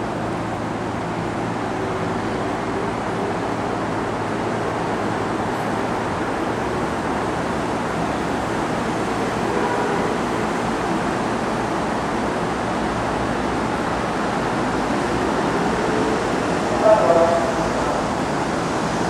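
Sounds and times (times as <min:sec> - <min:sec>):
railway station ambience: 0:00.0 - 0:19.0.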